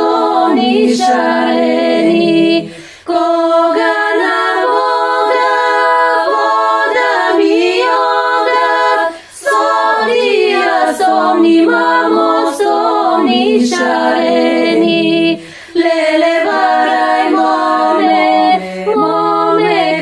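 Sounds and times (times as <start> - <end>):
women's choir singing a cappella: 0.0 - 20.0.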